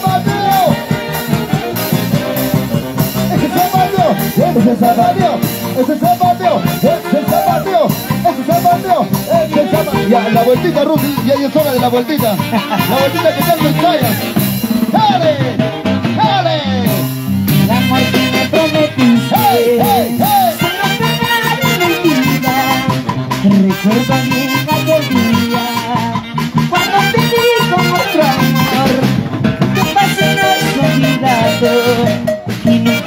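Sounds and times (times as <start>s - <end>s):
bass line: 0.0s - 33.0s
drums: 0.0s - 33.0s
saxophones playing tune: 0.0s - 33.0s.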